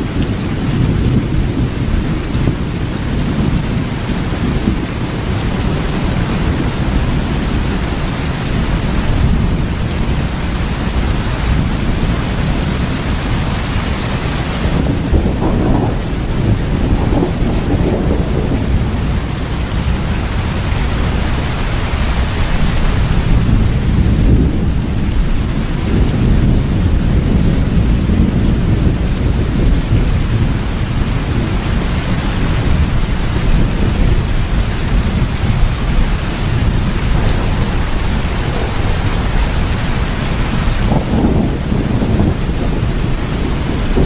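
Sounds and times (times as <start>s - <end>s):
low rumble of thunder: 0.0s - 44.0s
steady rain falling: 0.0s - 44.0s.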